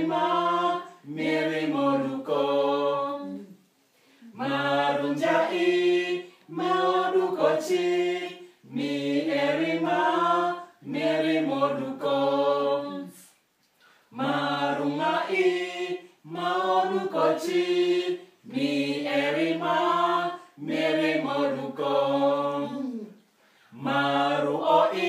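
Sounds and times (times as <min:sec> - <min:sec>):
group of adults chanting: 0:00.0 - 0:03.4, 0:04.2 - 0:13.2, 0:14.1 - 0:23.1, 0:23.7 - 0:25.0.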